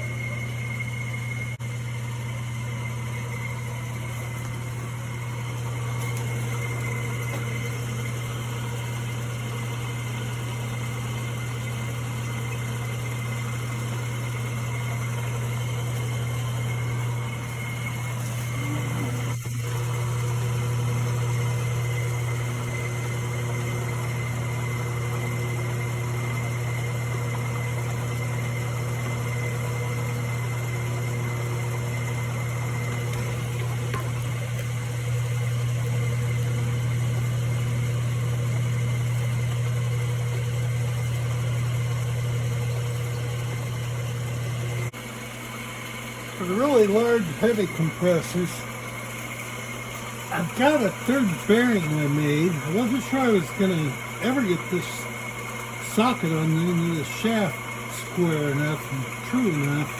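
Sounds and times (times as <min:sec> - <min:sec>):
lathe motor humming: 0:00.0 - 0:59.9.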